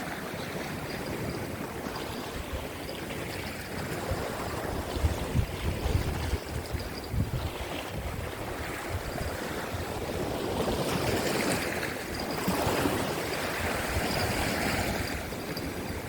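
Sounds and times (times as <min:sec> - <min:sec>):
sea waves breaking over rocks: 0:00.0 - 0:16.0
wind rumbling on microphone: 0:00.0 - 0:16.0.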